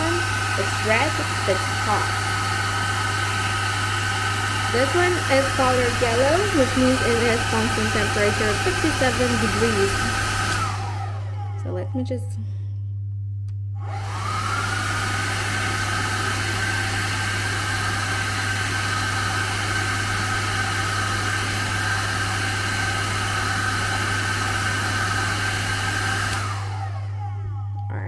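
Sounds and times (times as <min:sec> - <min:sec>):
hair dryer running: 0:00.0 - 0:12.3, 0:13.8 - 0:28.0.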